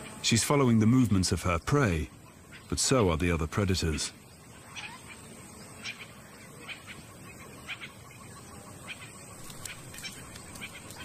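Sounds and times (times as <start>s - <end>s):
low background hiss: 0.0s - 11.0s.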